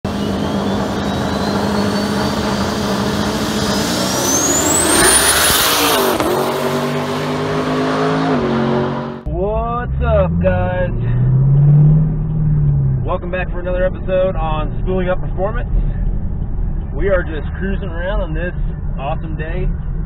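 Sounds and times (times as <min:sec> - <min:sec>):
car engine accelerating hard: 0:00.0 - 0:20.0
high whine: 0:00.0 - 0:20.0.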